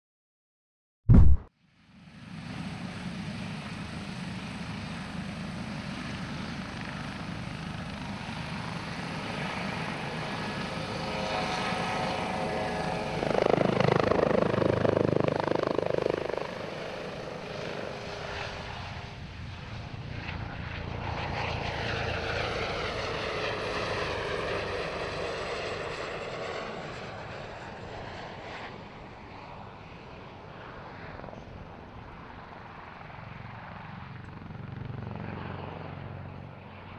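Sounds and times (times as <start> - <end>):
helicopter flying past: 1.1 - 36.9.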